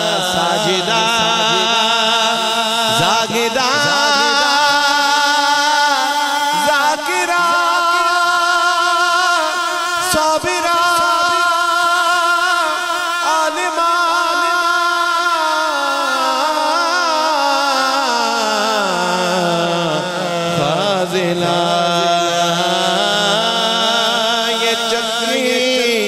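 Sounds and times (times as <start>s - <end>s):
man singing: 0.0s - 26.0s.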